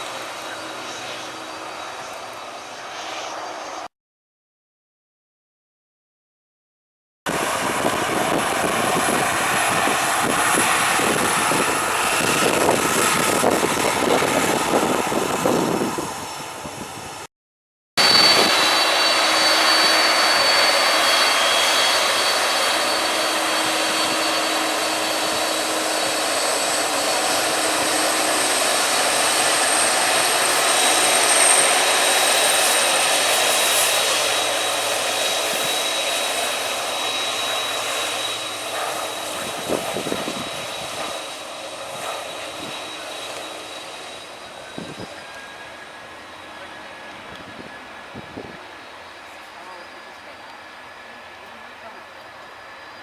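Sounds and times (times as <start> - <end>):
jet engine whine: 0.0 - 3.9, 7.3 - 17.3, 18.0 - 53.0
jet engines roaring: 0.0 - 3.9, 7.3 - 17.3, 18.0 - 53.0.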